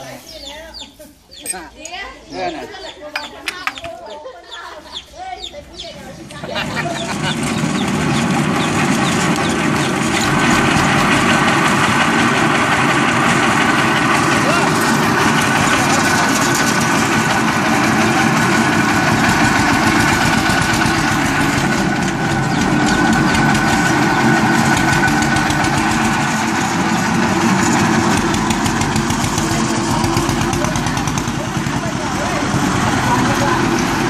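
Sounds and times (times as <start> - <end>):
diesel engine idling with knocking: 6.3 - 34.0.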